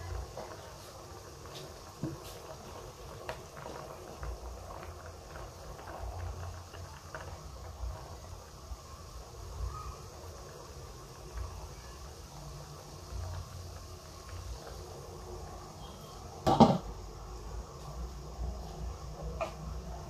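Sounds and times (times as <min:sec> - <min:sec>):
broth simmering with pops: 0:00.0 - 0:20.0.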